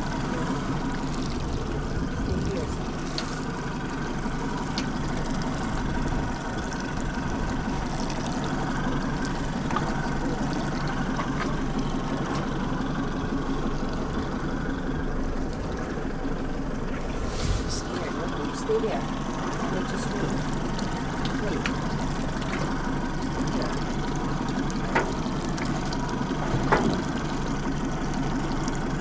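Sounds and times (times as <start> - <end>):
outboard motor running: 0.0 - 29.0
water washing along hull: 0.0 - 29.0.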